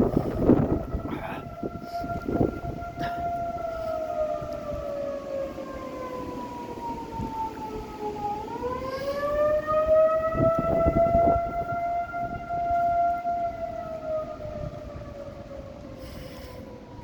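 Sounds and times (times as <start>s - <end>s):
warning siren falling in pitch: 0.0s - 17.0s.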